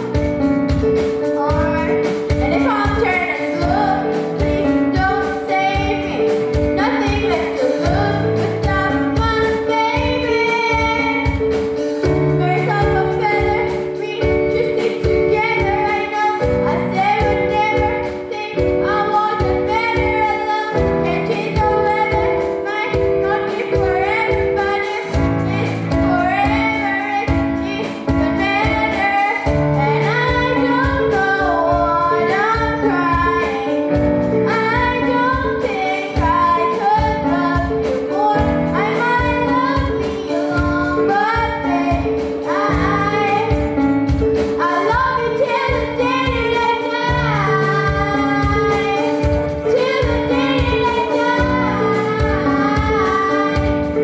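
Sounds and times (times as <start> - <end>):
live band playing: 0.0 - 54.0
steady drum beat: 0.0 - 54.0
girl singing: 1.2 - 11.5, 12.1 - 54.0.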